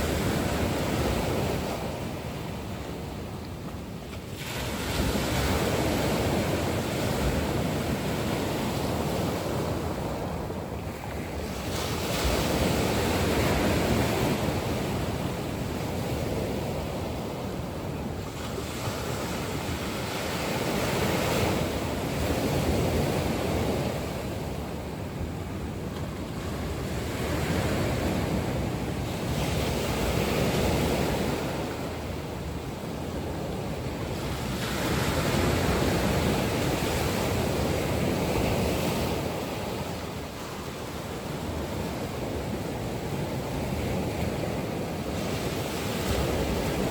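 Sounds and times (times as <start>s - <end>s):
sea waves surging: 0.0s - 46.9s.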